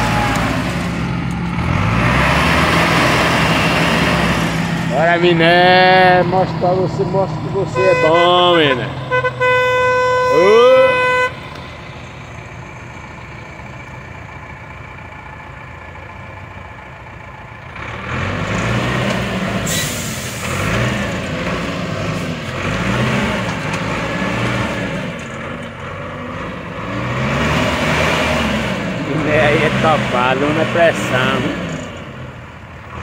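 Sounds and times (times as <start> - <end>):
diesel engine idling and revving: 0.0 - 33.0.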